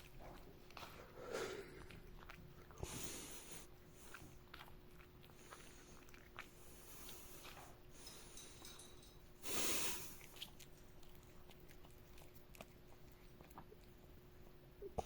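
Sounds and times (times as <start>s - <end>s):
cat chewing food: 0.0s - 8.4s, 9.3s - 15.0s.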